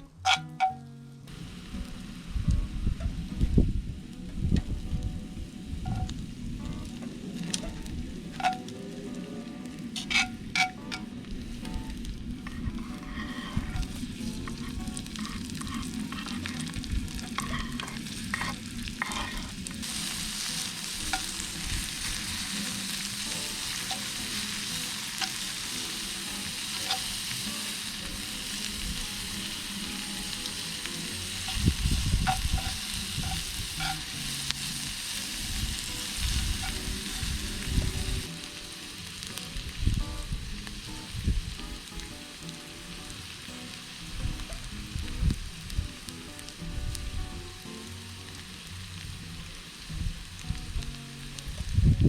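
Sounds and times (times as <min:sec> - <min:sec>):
food sizzling in a skillet: 0:00.2 - 0:52.0.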